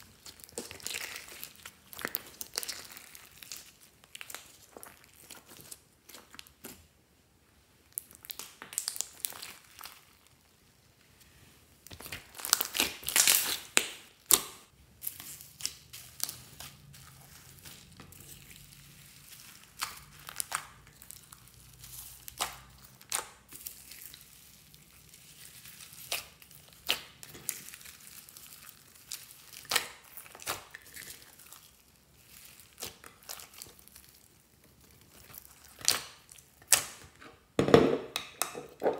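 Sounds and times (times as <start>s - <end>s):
slime crackling and popping: 0.0s - 6.8s, 7.9s - 10.5s, 11.8s - 37.2s.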